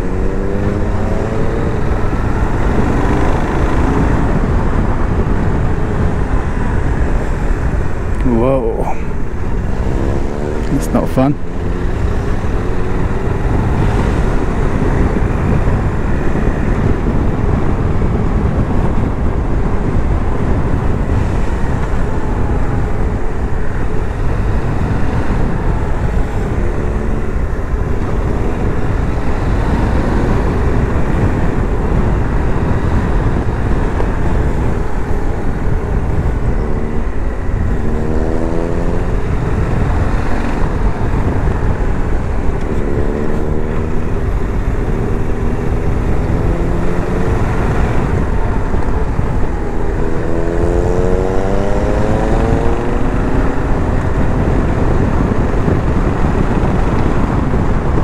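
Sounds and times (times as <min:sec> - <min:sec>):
motorcycle engine revving: 0:00.0 - 0:08.5, 0:09.1 - 0:58.0
heavy wind rush: 0:00.0 - 0:58.0.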